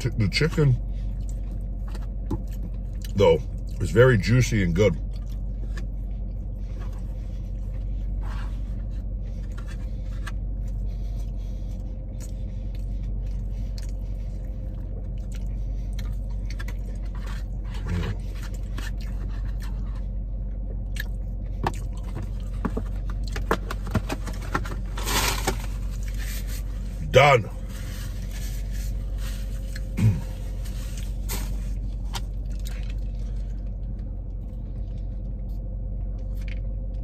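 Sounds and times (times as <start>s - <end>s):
low car cabin hum: 0.0s - 37.0s
man chewing food: 1.0s - 3.8s, 5.0s - 24.6s, 28.0s - 31.2s, 31.8s - 37.0s.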